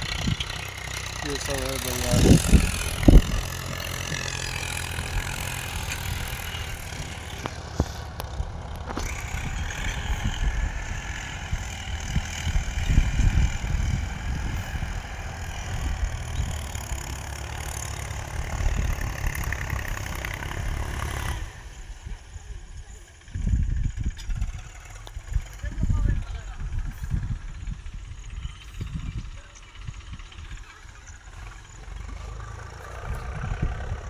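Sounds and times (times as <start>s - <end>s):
tractor engines droning: 0.0s - 34.0s.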